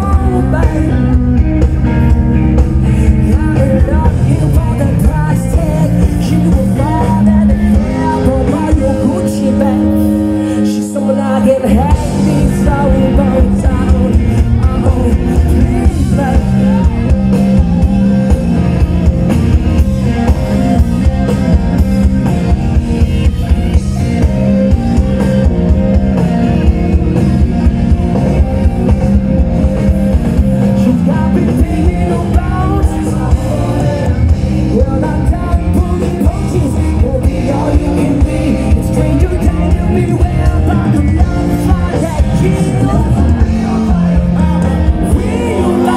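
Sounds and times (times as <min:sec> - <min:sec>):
person singing: 0:00.0 - 0:21.6, 0:30.2 - 0:45.9
live rock band playing: 0:00.0 - 0:45.9.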